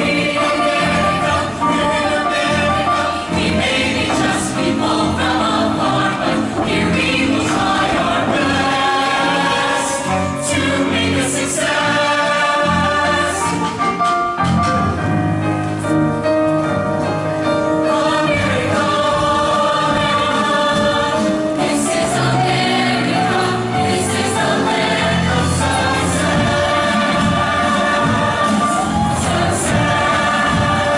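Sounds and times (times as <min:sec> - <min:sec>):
mixed choir singing: 0:00.0 - 0:14.0, 0:17.4 - 0:30.9.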